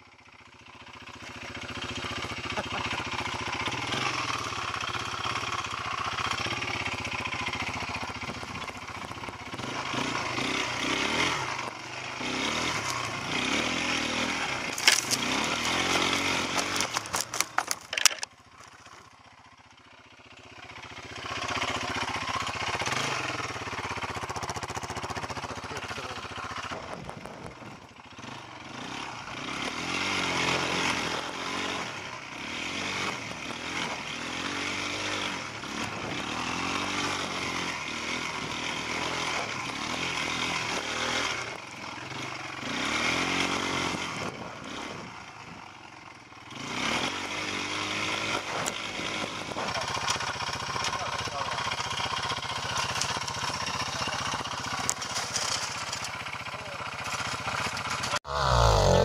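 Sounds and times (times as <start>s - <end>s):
quad bike engine revving: 0.2s - 59.0s.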